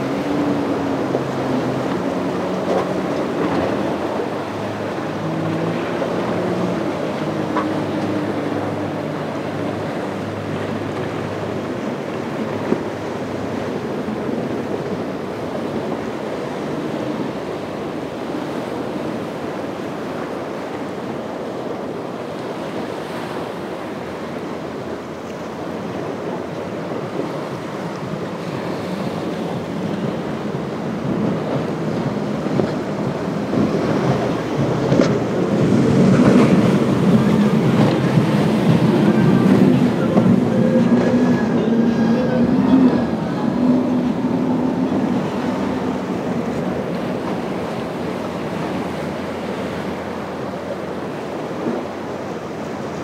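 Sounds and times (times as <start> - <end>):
boat outboard engines: 0.0 - 53.0
waves washing: 0.0 - 53.0
wind rushing over microphone: 0.0 - 53.0.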